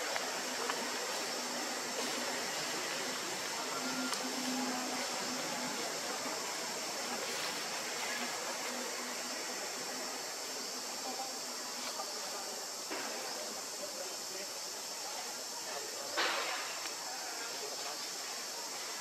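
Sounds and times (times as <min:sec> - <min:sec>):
high-pitched hiss: 0:00.0 - 0:19.0.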